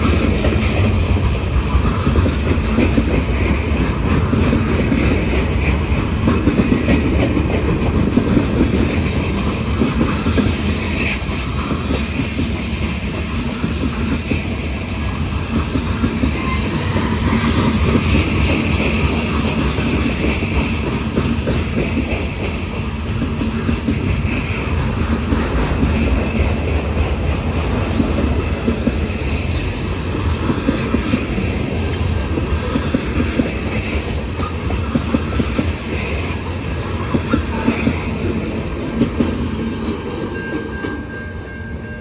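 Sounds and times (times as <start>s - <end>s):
wheels clacking over rail joints: 0.0s - 41.2s
train wheels rumbling on rail: 0.0s - 42.0s.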